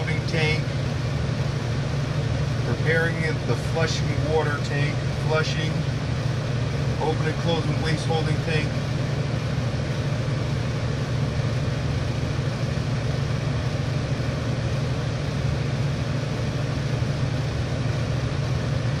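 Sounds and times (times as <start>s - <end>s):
low mechanical drone with hiss: 0.0s - 19.0s.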